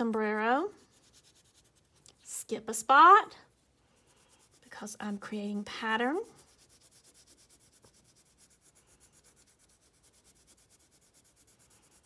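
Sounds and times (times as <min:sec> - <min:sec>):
crayon rubbing on paper: 0:00.0 - 0:02.0, 0:03.6 - 0:12.0.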